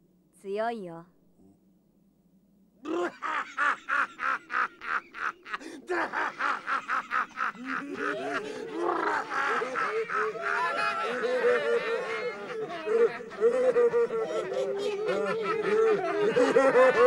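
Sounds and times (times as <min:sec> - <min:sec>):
man laughing loudly: 0:02.8 - 0:17.0
people laughing: 0:02.9 - 0:17.0.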